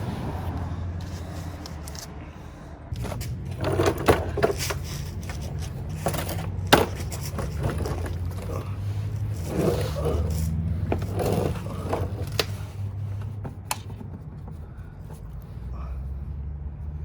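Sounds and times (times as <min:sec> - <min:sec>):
handling scrapes clicks and knocks: 0:01.0 - 0:02.2, 0:02.9 - 0:15.7.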